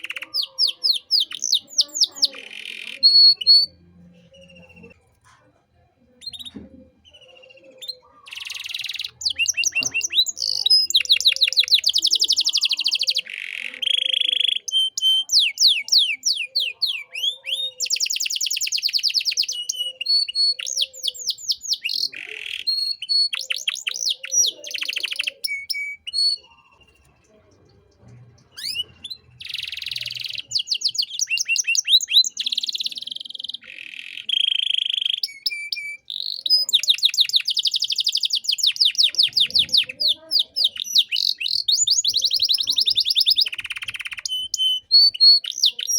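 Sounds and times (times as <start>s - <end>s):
canary singing trills: 0.0s - 5.2s, 6.0s - 45.9s.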